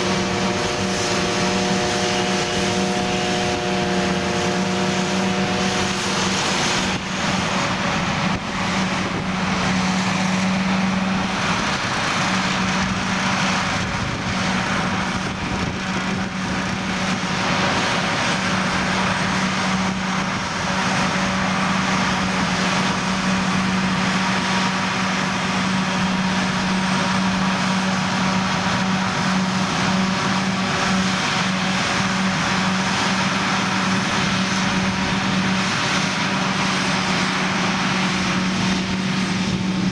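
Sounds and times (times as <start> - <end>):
forage harvester chopping drone: 0.0 - 39.9
tractor engine running: 0.0 - 39.9.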